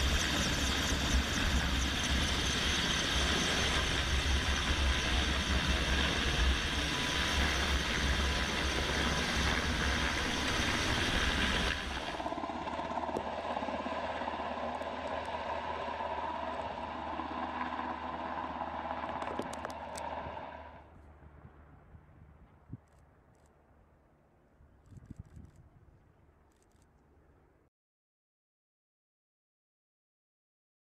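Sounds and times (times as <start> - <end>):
helicopter rotors and turbines: 0.0 - 27.6.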